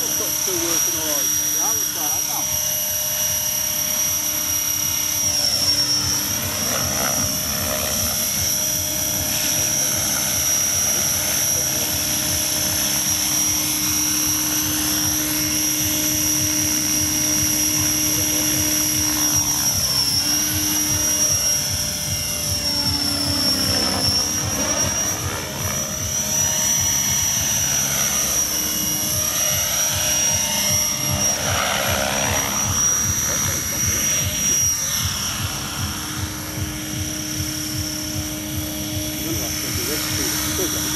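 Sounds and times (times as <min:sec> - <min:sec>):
model helicopter whine and rotor chop: 0:00.0 - 0:40.9.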